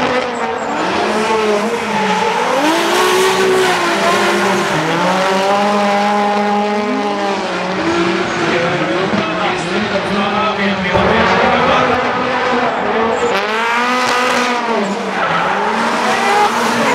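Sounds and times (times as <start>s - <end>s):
car engines revving: 0.0s - 16.9s.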